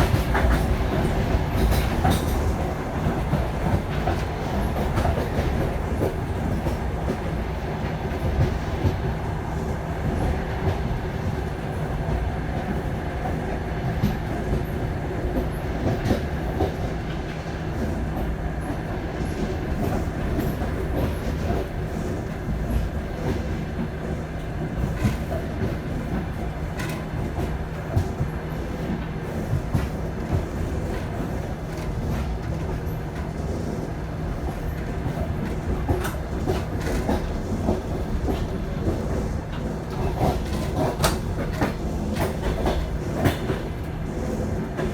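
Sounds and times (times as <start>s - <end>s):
train rumbling along track: 0.0s - 44.9s.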